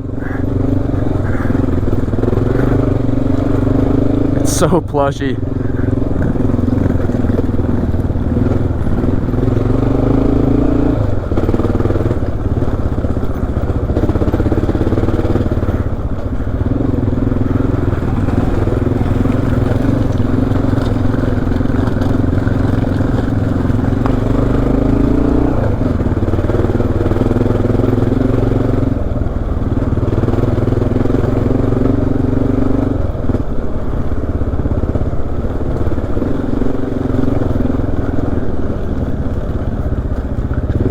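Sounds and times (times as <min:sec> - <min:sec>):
motorcycle engine under load: 0:00.0 - 0:40.9.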